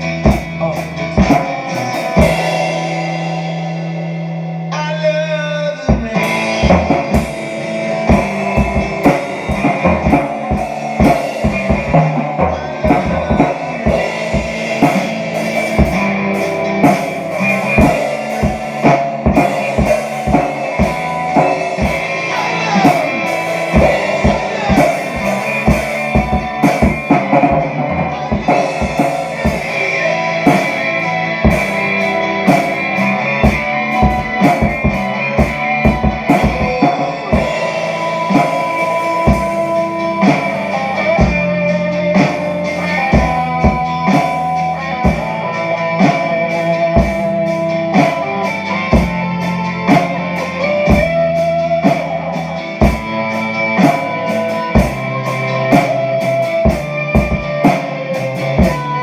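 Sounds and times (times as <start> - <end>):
drum kit beat: 0.0 - 59.0
rock song with electric guitar: 0.0 - 59.0.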